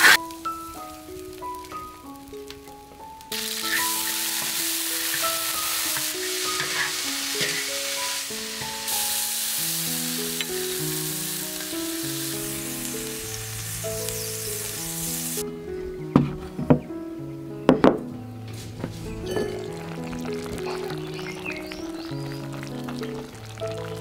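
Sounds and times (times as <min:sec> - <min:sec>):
bean sprouts sizzling in a wok: 0:00.0 - 0:15.4, 0:19.5 - 0:24.0
slow melodic background music: 0:00.0 - 0:24.0.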